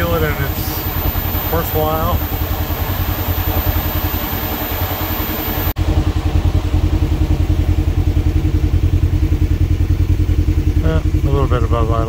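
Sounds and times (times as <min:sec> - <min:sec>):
engine idling: 0:00.0 - 0:12.0
roof fans air noise: 0:00.0 - 0:12.0.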